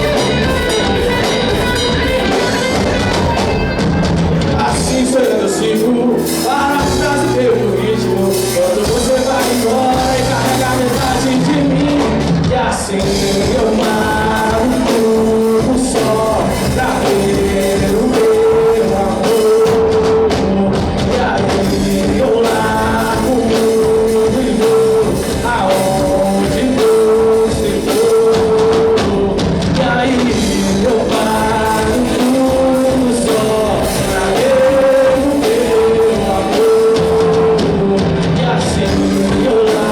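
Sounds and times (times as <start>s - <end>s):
person singing lead vocal: 0.0s - 39.9s
rock band playing: 0.0s - 39.9s.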